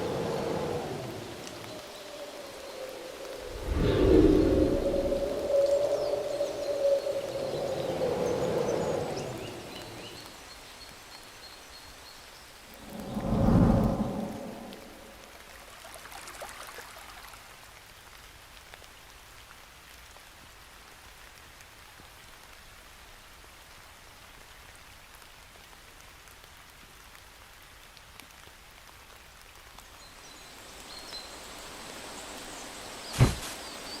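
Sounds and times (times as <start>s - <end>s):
rain-like hiss: 0.0s - 34.0s.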